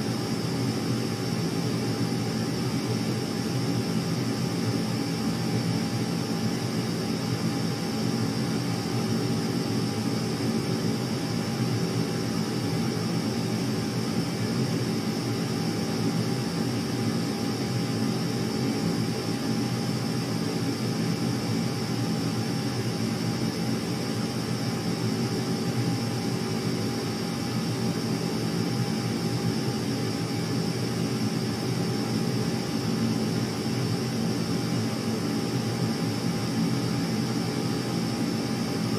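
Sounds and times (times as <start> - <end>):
aircraft engine drone: 0.0 - 38.9.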